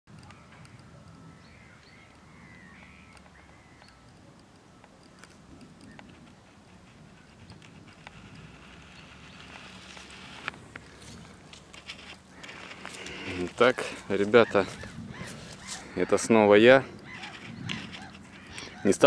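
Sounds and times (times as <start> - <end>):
birds calling: 0.1 - 19.0.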